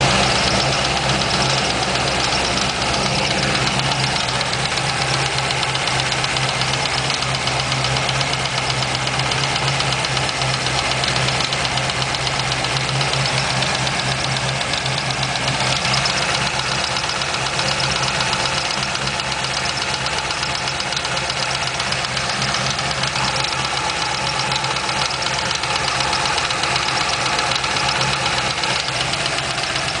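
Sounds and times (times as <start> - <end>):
car engine idling: 0.0 - 30.0
fast regular engine tick: 0.0 - 30.0.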